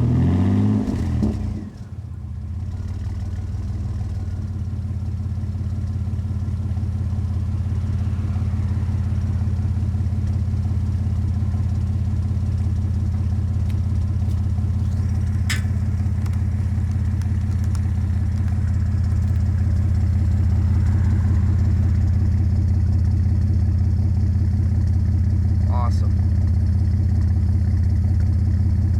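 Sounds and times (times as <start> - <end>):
pickup truck idling: 1.7 - 28.9.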